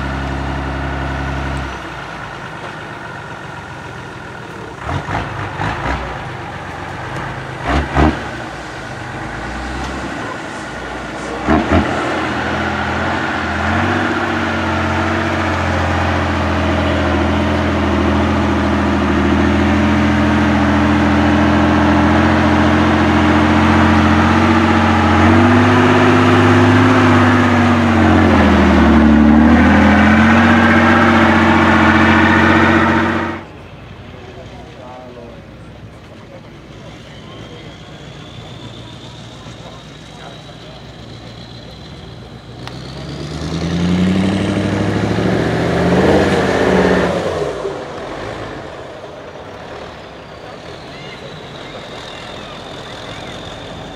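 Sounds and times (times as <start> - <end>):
truck engine under load: 0.0 - 53.9.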